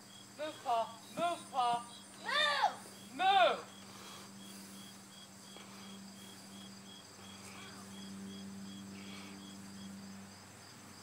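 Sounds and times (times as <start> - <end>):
crickets chirping: 0.0 - 11.0
faint low hum: 0.0 - 11.0.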